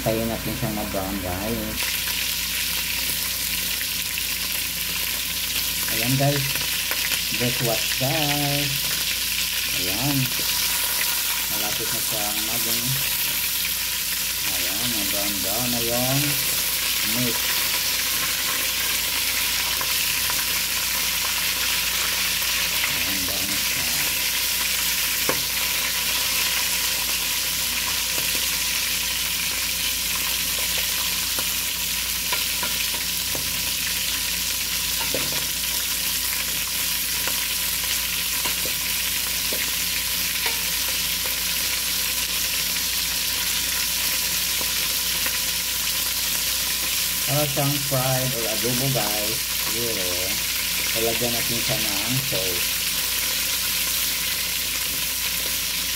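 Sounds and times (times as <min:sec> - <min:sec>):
meat sizzling in hot oil: 0:00.0 - 0:55.9.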